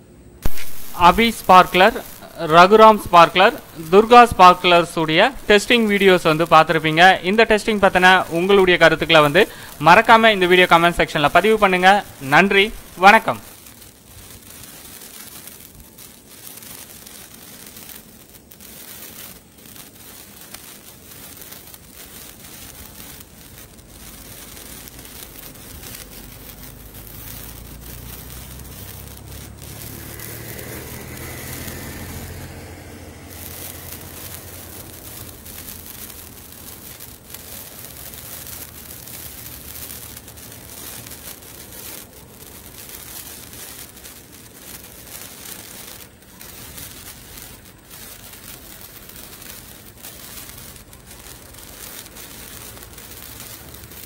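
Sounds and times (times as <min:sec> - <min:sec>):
sparkler fizzing and crackling: 0:00.0 - 0:54.0.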